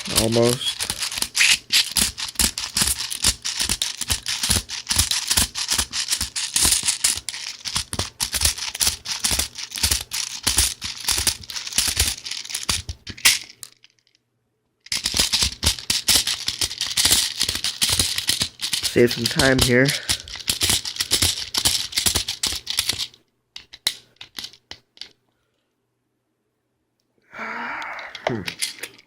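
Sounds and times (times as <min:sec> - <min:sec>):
plastic clicks and rattling pellets: 0:00.0 - 0:14.2, 0:14.9 - 0:25.2.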